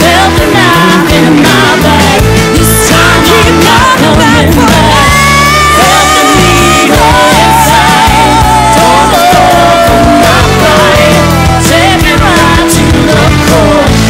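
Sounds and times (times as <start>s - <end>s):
lead vocalist singing: 0.0s - 14.0s
rock band playing: 0.0s - 14.0s.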